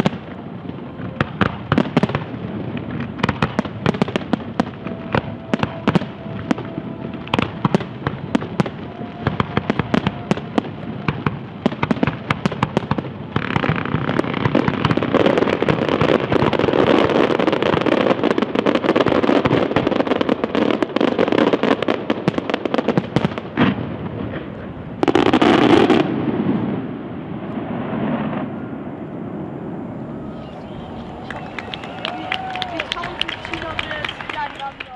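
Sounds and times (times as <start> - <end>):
fireworks bangs and crackle: 0.0 - 34.9.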